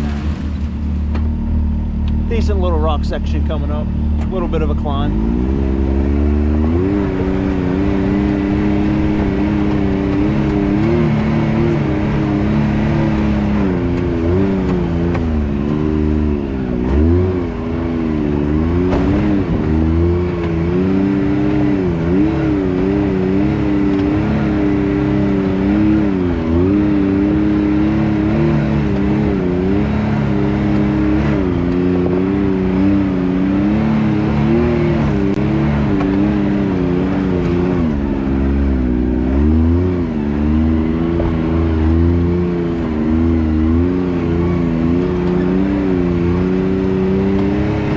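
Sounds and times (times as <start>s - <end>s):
off-road vehicle engine revving: 0.0s - 47.9s.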